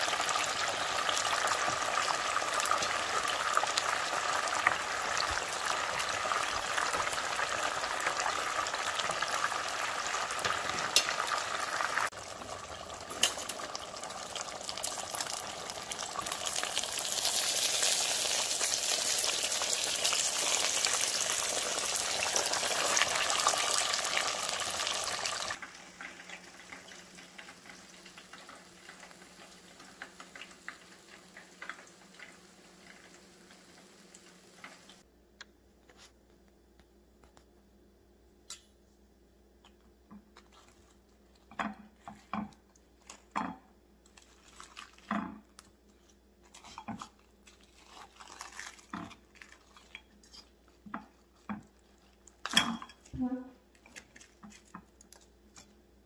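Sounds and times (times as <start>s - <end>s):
oil sizzling and bubbling: 0.0s - 35.1s, 39.6s - 56.0s.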